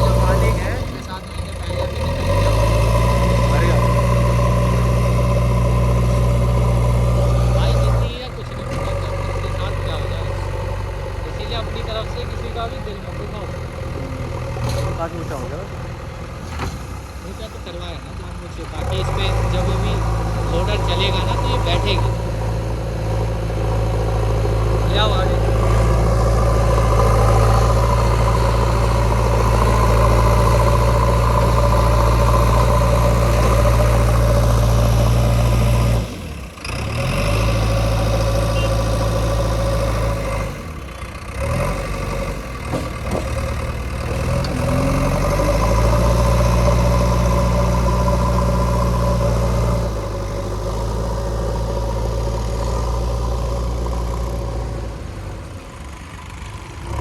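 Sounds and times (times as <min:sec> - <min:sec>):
heavy diesel engine under load: 0:00.0 - 0:57.0.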